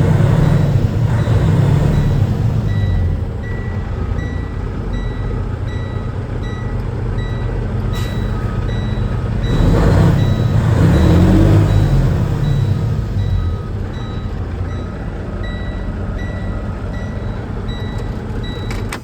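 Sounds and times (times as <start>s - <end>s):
backup alarm beeping: 0.0s - 19.0s
diesel truck engine running: 0.0s - 19.0s.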